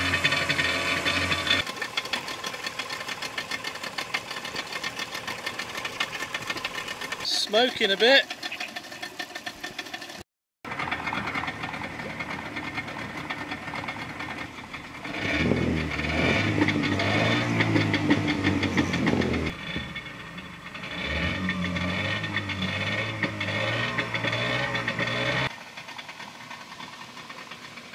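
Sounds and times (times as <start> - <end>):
outboard engine running: 0.0 - 27.9.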